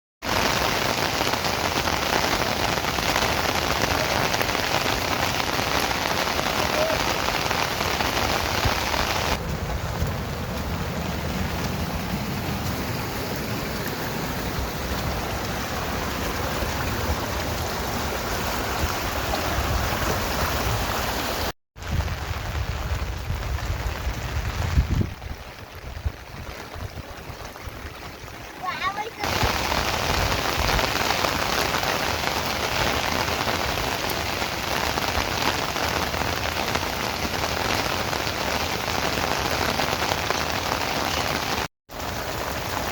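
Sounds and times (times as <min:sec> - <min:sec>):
steady rain falling: 0:00.2 - 0:42.9.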